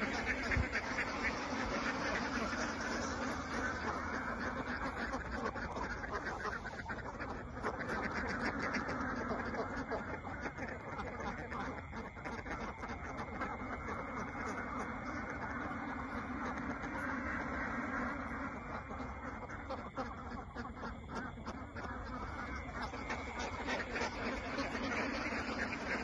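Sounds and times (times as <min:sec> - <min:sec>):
flock of ducks quacking: 0:00.0 - 0:26.0.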